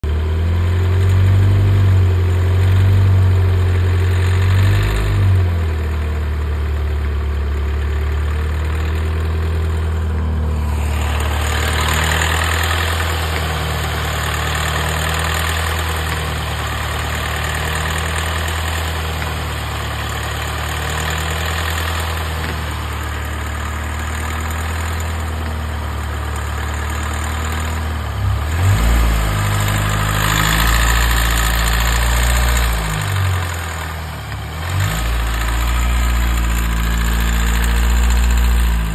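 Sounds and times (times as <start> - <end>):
car engine idling with rattle: 0.0 - 38.9.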